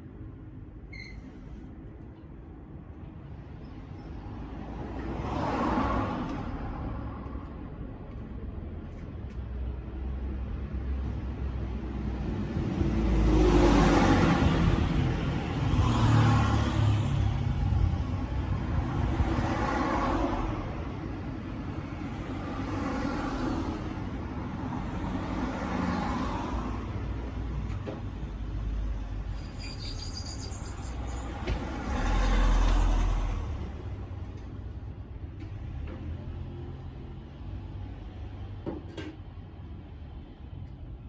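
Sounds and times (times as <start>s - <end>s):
road vehicles passing: 0.0s - 41.0s.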